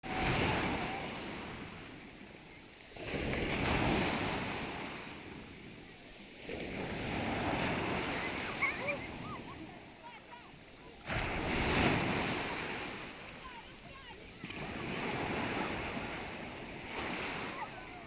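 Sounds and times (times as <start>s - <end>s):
waves breaking and washing in: 0.0s - 18.0s.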